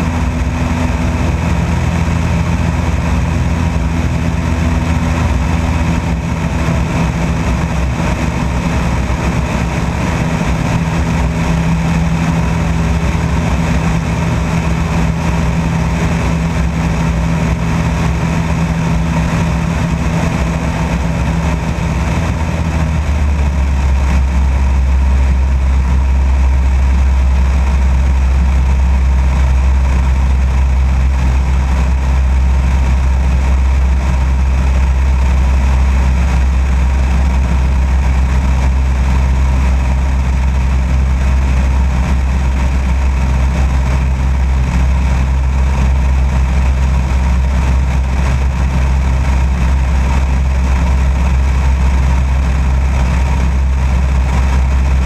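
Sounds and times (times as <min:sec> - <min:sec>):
aircraft engine and propeller droning: 0:00.0 - 0:55.0
airflow rushing: 0:00.0 - 0:55.0.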